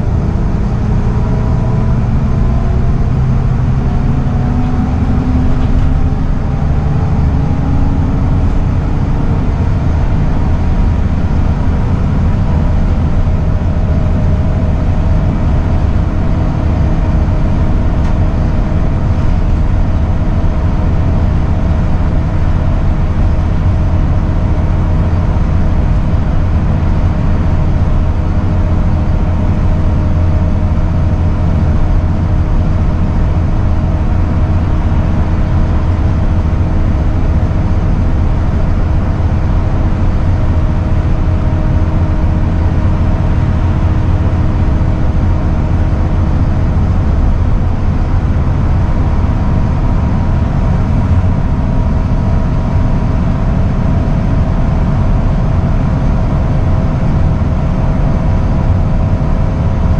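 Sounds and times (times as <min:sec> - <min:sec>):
bus diesel engine drone: 0:00.0 - 0:59.9
road and tyre noise: 0:00.0 - 0:59.9.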